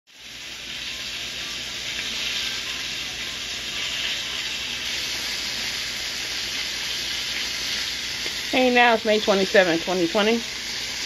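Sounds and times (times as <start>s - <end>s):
food sizzling in a pan: 0.1s - 11.0s.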